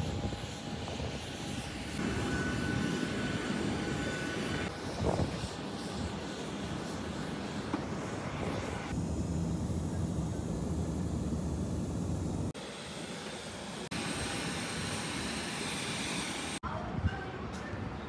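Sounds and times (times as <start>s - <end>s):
aircraft noise: 0.0s - 16.6s
airliner cabin drone: 0.0s - 16.6s
outdoor noise with hiss: 0.0s - 18.0s.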